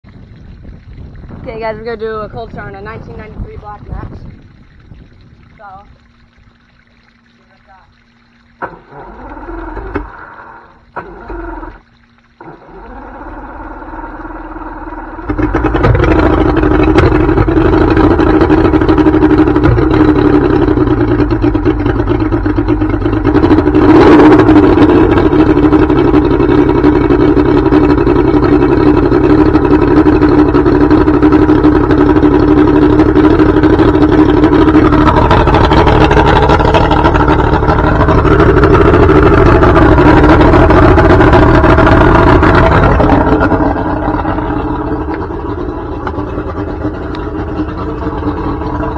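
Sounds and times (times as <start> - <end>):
outboard engine starting and idling: 0.5 - 48.9.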